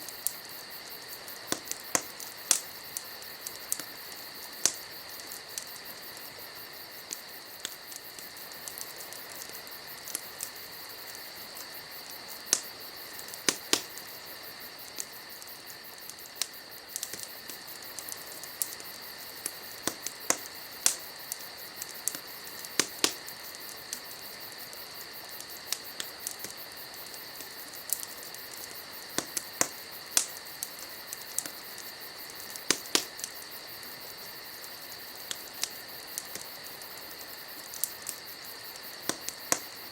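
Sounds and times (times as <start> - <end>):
night insects chirring: 0.0 - 39.9
wood fire crackling and popping: 0.0 - 39.9.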